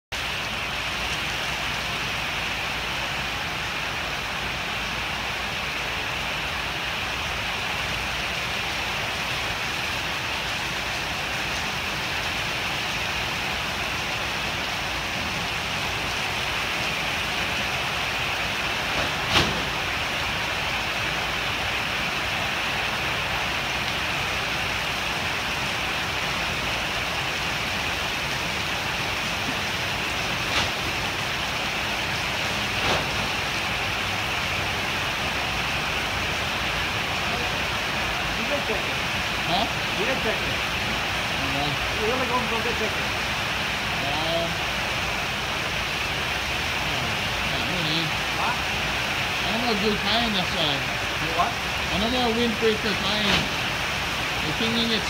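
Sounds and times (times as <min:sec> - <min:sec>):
heavy rain: 0:00.1 - 0:55.0.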